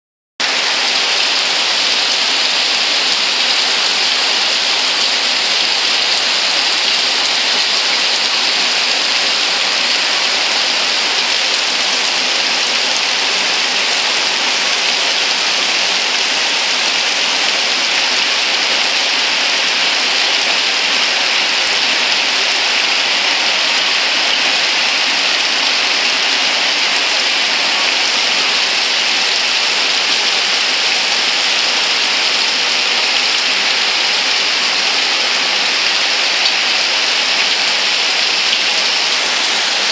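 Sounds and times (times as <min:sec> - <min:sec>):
heavy rain on leaves: 0:00.4 - 0:39.9.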